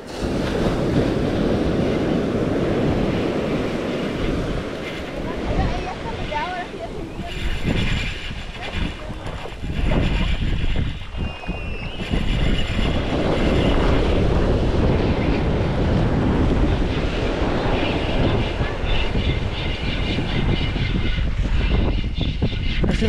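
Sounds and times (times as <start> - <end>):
surf breaking on shore: 0.0 - 21.7
wind buffeting microphone: 0.0 - 23.0.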